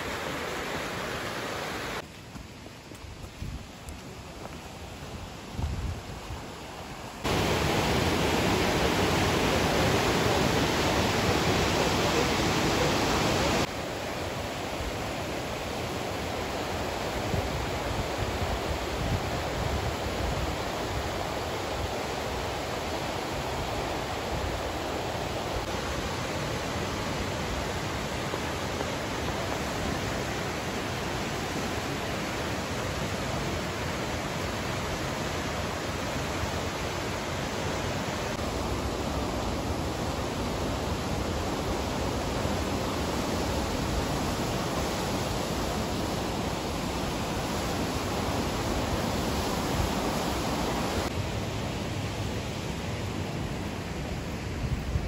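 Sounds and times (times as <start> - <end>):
rushing white water: 0.0 - 3.0, 3.9 - 55.0.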